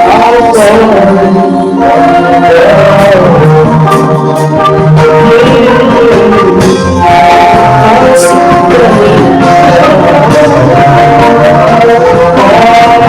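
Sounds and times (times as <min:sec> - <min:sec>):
long held musical notes: 0:00.0 - 0:13.0
person singing gliding pitches: 0:00.0 - 0:13.0.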